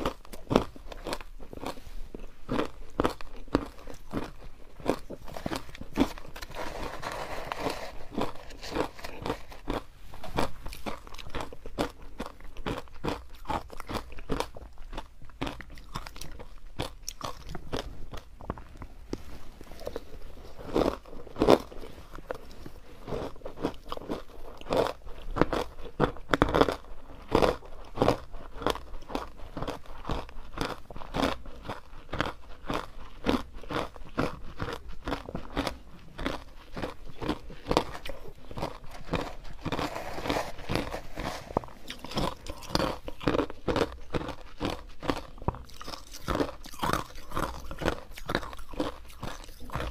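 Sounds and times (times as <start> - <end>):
teeth crunching ice: 0.0 - 18.7, 19.8 - 49.9.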